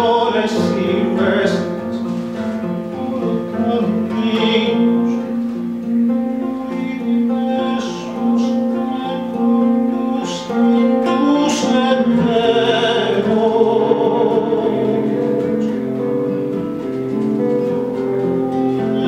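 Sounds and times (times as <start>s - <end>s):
acoustic guitar chords: 0.0s - 19.0s
person singing: 0.0s - 19.0s.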